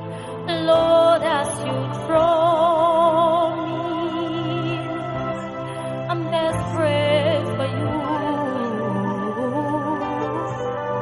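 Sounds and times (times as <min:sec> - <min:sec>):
gospel singing with vibrato: 0:00.0 - 0:11.0.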